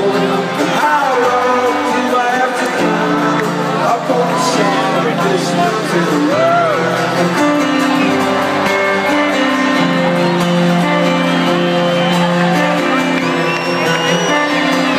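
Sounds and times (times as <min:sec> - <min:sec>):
electric guitar: 0:00.0 - 0:14.9
live rock band playing: 0:00.0 - 0:14.9.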